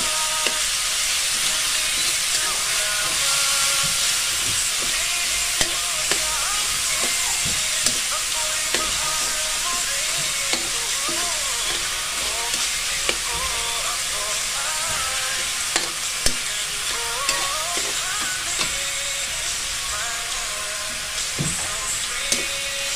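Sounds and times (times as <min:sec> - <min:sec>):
food sizzling in a wok: 0:00.0 - 0:22.9
metal spatula scraping a pan: 0:00.0 - 0:22.9.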